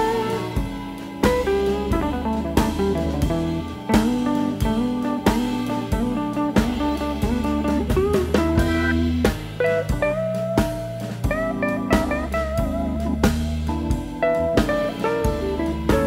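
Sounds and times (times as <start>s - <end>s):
bass: 0.0s - 16.0s
drums: 0.0s - 16.0s
guitar melody: 0.0s - 16.0s.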